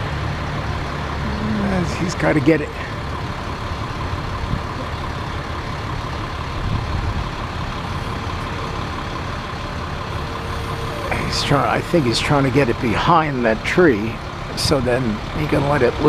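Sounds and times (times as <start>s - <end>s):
truck engine running steadily: 0.0s - 16.0s.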